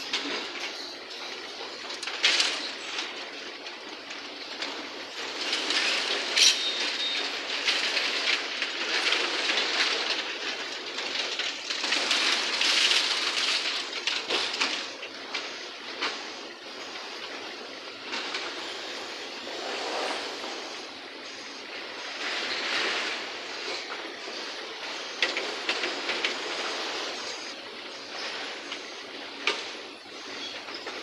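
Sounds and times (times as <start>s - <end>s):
rubble clattering and scraping: 0.0s - 31.0s.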